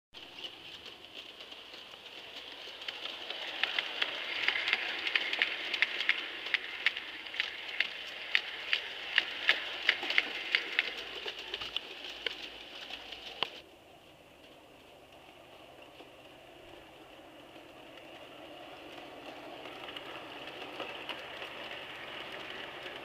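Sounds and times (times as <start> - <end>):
steady rolling hiss: 0.2 - 23.0
train wheels clicking over rail joints: 0.2 - 23.0.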